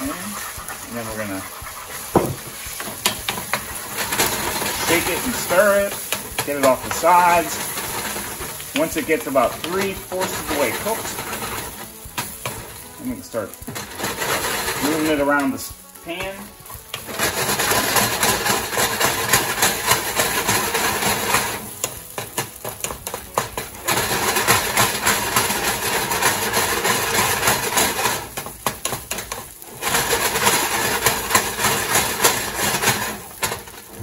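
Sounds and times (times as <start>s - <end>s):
pan rattling on coil burner: 0.0s - 34.0s
wooden spoon stirring: 0.0s - 34.0s.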